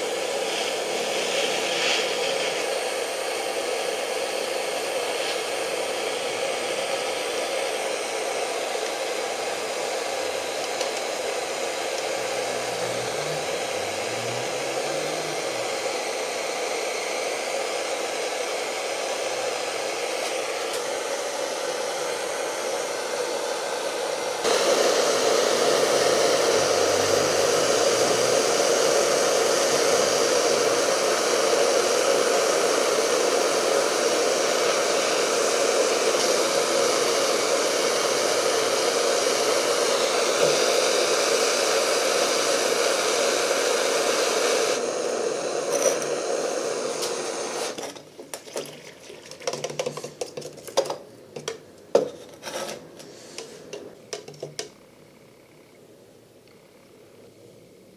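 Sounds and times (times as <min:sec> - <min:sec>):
blowtorches hissing: 0:00.0 - 0:48.5, 0:52.7 - 0:54.7.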